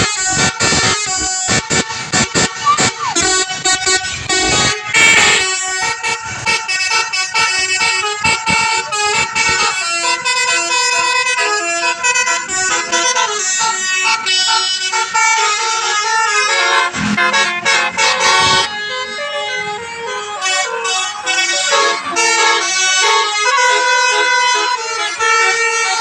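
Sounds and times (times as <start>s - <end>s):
multi-trumpet air horn melody: 0.0s - 26.0s.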